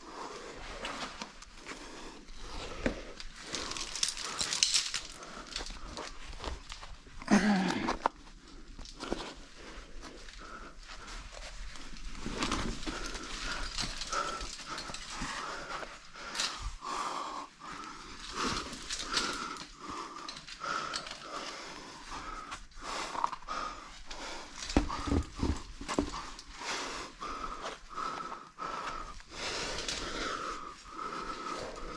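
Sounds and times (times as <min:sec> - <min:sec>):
person panting and wheezing: 0:00.0 - 0:31.9.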